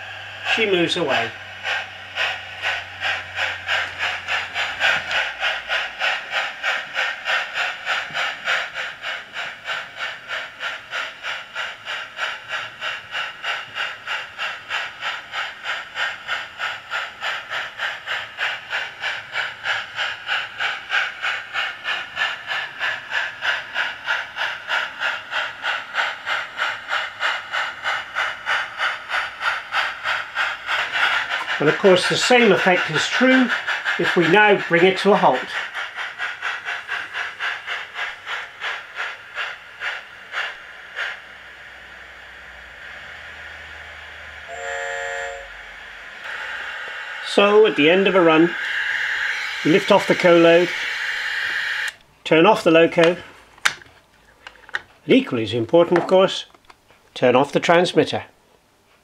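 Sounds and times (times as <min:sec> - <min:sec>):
model locomotive steam chuffing: 0:00.0 - 0:58.4.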